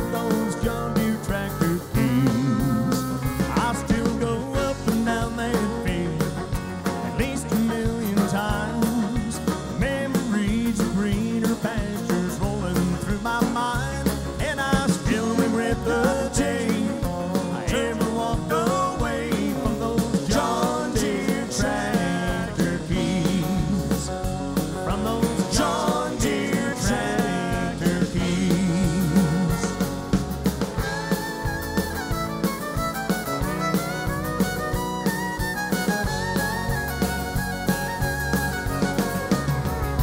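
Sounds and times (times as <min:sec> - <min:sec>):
acoustic guitar: 0:00.0 - 0:40.0
country band playing live: 0:00.0 - 0:40.0
drum kit: 0:00.0 - 0:40.0.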